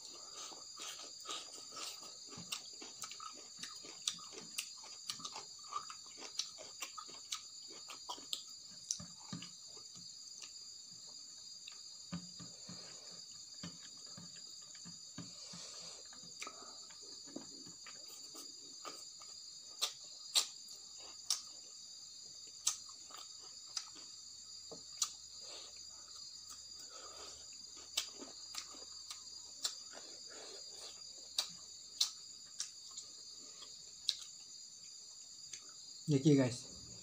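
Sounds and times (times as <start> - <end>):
chewing: 0.0 - 21.8, 22.4 - 35.9.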